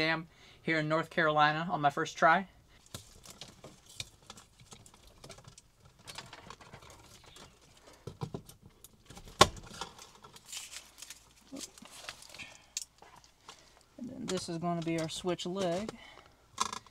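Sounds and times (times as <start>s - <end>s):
cable handling rustle: 2.8s - 16.9s.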